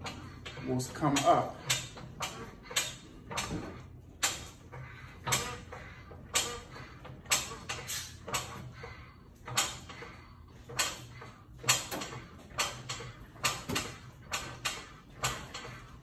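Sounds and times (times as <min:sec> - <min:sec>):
floor jack creaking: 0:00.0 - 0:16.0.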